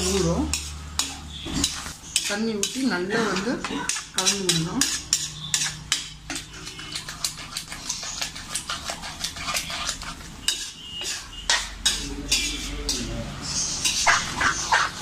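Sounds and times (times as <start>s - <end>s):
metal spatula scraping a pan: 0.0s - 15.0s.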